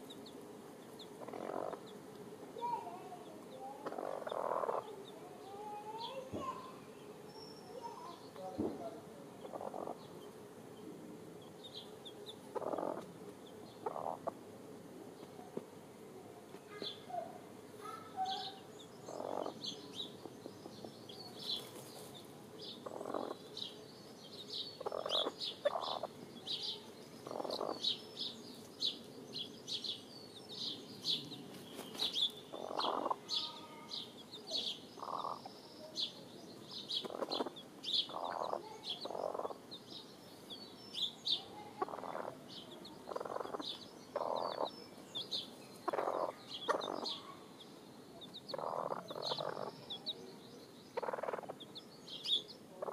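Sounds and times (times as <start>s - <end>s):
high chick chirps: 0.0s - 8.6s, 9.4s - 14.6s, 16.6s - 52.9s.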